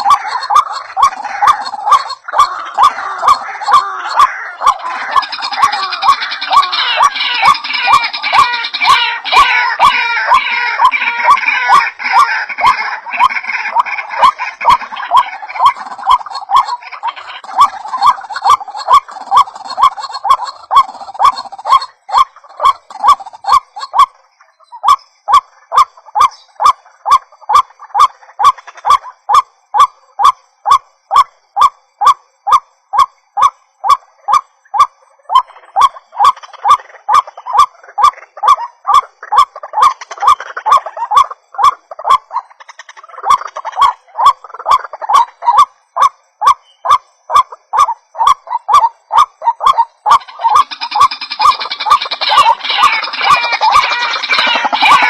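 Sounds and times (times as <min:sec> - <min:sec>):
faint chorus of bird calls: 0:00.0 - 0:55.0
waterhen calling: 0:00.0 - 0:55.0.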